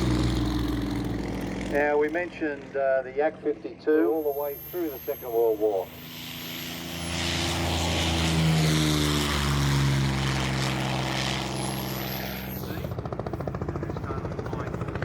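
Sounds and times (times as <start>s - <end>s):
helicopter rotor beat: 0.0s - 15.0s
propeller plane engine passing: 0.0s - 15.0s.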